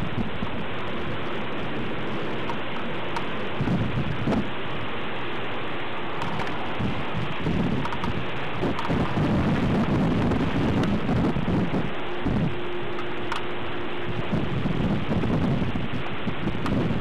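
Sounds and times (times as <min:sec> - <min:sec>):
steady rain: 0:00.0 - 0:17.0
wind noise on microphone: 0:00.0 - 0:17.0.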